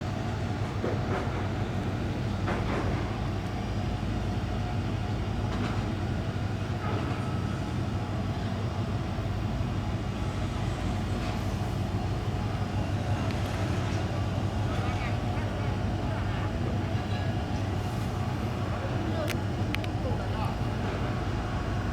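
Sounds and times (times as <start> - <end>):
muffled diesel engines droning: 0.0 - 21.9.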